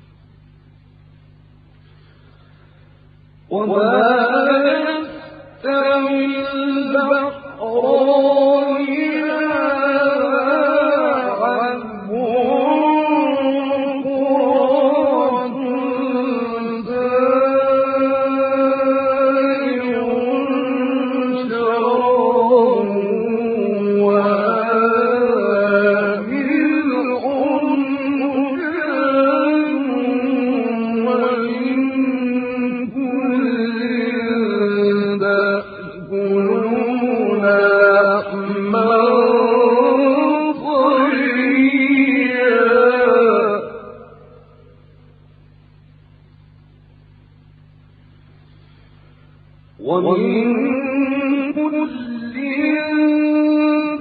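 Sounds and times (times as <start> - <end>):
man reciting melodically: 3.5 - 44.1, 49.8 - 54.0.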